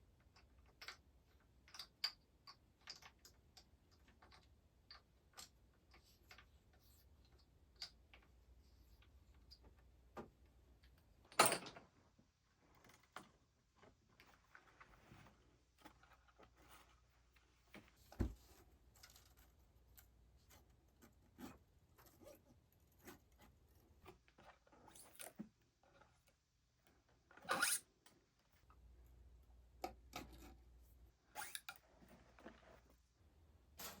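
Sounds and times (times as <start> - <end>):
small clicks and rustles: 0.1 - 29.1, 29.8 - 33.1.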